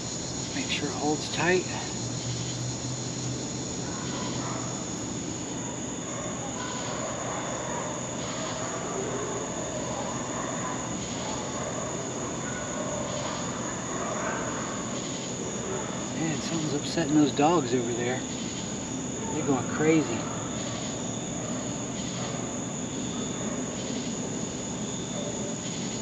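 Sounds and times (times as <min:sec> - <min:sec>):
distant dogs barking: 0:00.0 - 0:26.0
night insects droning: 0:00.0 - 0:26.0.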